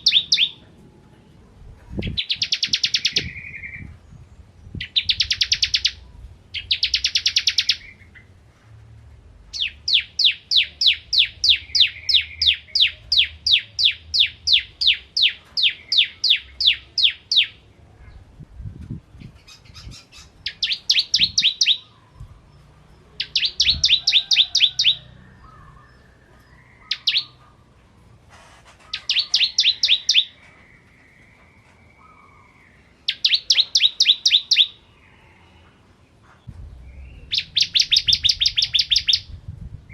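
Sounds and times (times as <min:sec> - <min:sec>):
bird singing high chirps: 0:00.0 - 0:00.6, 0:02.0 - 0:08.3, 0:09.5 - 0:17.6, 0:19.2 - 0:27.4, 0:28.9 - 0:35.4, 0:36.6 - 0:39.9.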